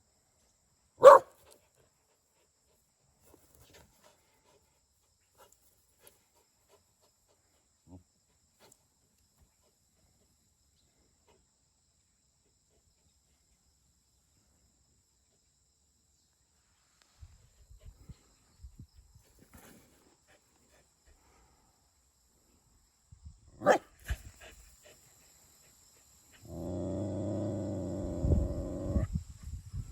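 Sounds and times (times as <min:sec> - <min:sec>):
faint insect chirring: 0:00.0 - 0:29.9.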